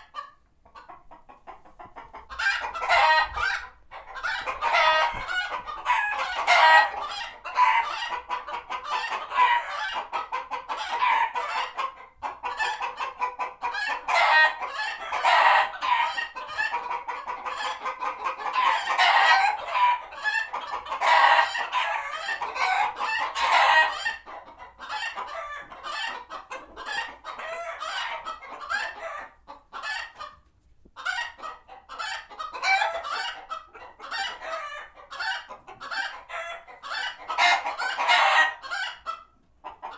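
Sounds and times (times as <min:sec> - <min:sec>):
chickens clucking in alarm: 0:00.0 - 0:39.9.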